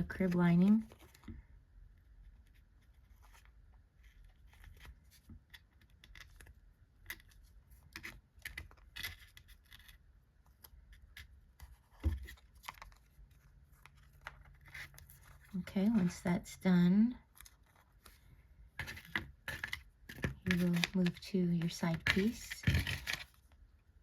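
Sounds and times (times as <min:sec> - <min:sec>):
paper and board pieces handled: 0:00.0 - 0:16.4, 0:17.2 - 0:23.7.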